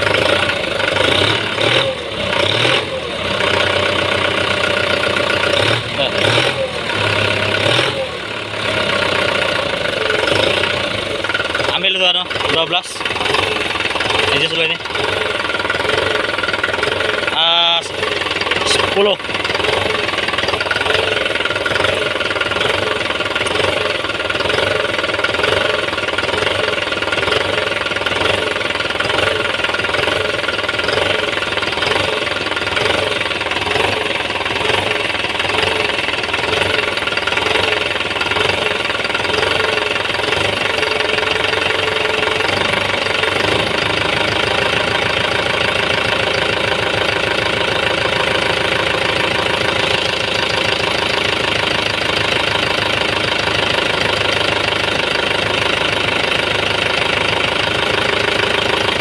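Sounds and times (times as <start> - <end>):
diesel tractor engine idling: 0.0 - 59.0.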